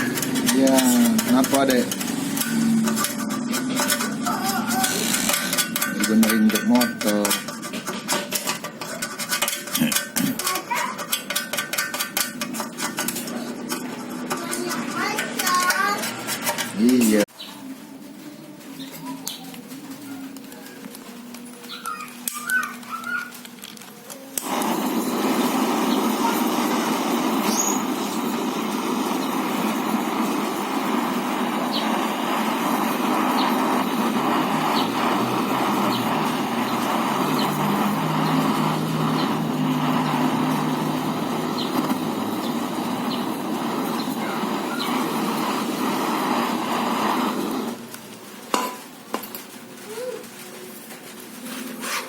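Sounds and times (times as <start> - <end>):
brazing torch hissing: 0.0 - 17.3, 24.3 - 49.4.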